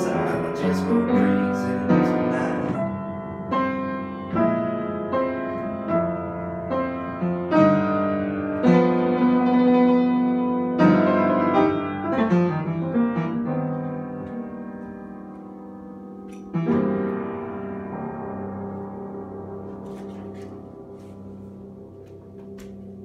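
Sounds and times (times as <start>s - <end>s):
solo piano ballad: 0.0s - 23.0s.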